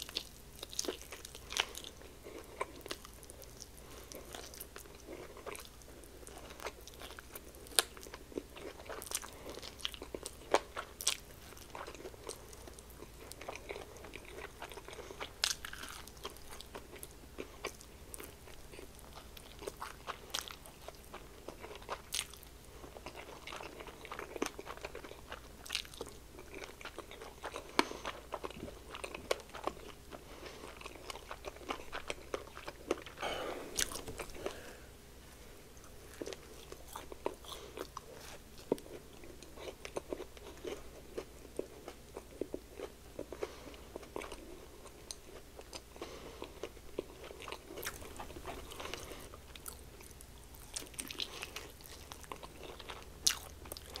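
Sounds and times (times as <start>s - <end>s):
crunching fried chicken: 0.0s - 34.7s, 36.0s - 54.0s.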